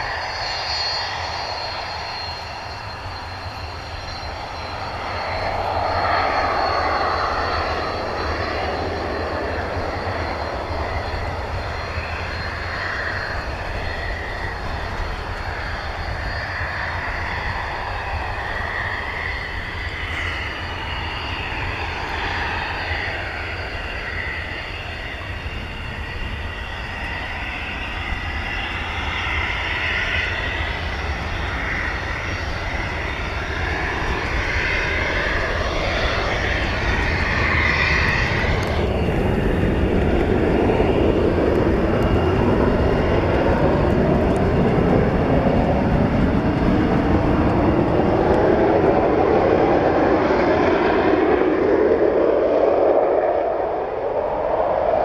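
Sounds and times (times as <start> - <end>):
deep jet engine rush: 0.0 - 55.0
jet engine whine: 0.0 - 55.0.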